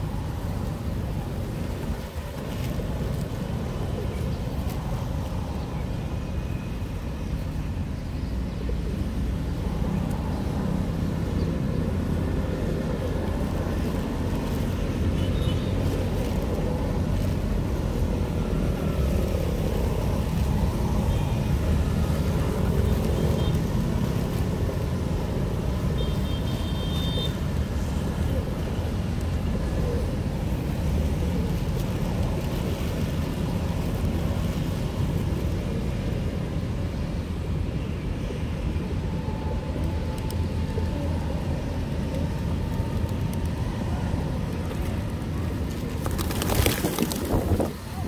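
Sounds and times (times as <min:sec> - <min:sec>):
street traffic rumble: 0:00.0 - 0:48.0.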